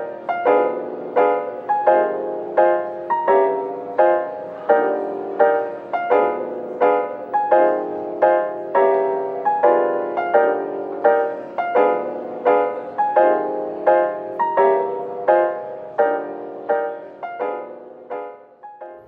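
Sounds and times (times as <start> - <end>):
soft lo-fi piano chords: 0.0 - 19.0.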